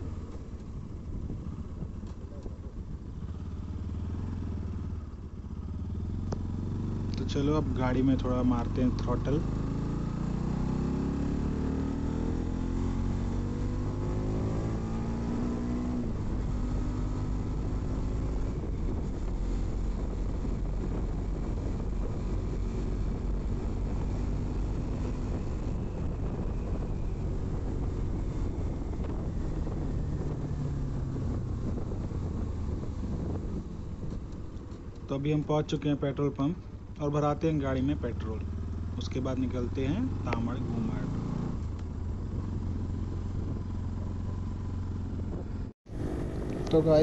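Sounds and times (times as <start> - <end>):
motorcycle engine accelerating: 0.0 - 47.0
wind and road noise: 0.0 - 47.0.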